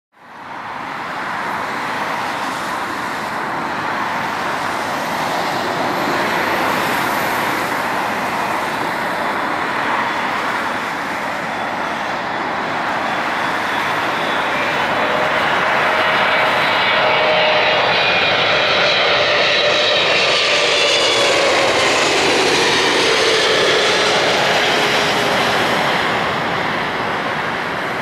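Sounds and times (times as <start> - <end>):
jet aircraft rushing noise: 1.6 - 28.0.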